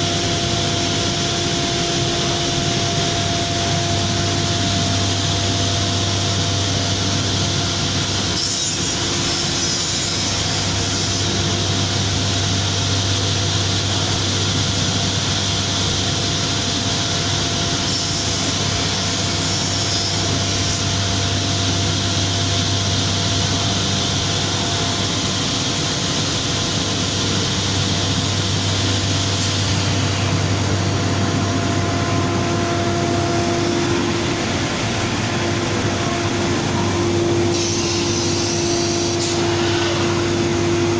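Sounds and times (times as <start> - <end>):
cnc router cutting wood: 0.0 - 12.2, 17.6 - 40.9
machine whine: 0.0 - 40.9.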